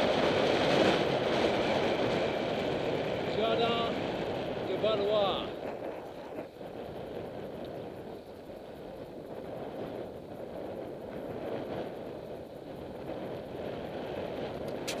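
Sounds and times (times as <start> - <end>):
road hum of bicycle: 0.0 - 15.0
wind over microphone: 0.0 - 15.0.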